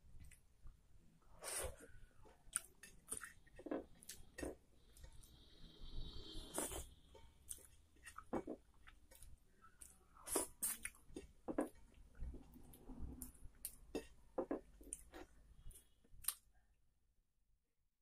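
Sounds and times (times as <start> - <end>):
person chewing: 1.4 - 16.4.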